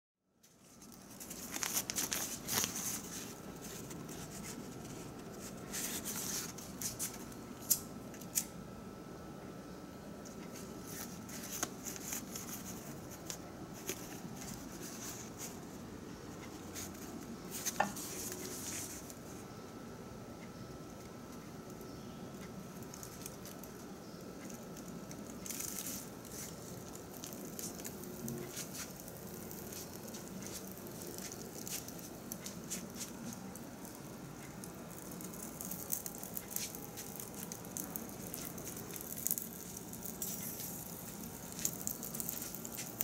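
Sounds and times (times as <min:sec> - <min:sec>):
paper and twigs crackling: 0:00.4 - 0:08.5, 0:10.3 - 0:19.4, 0:21.0 - 0:43.0.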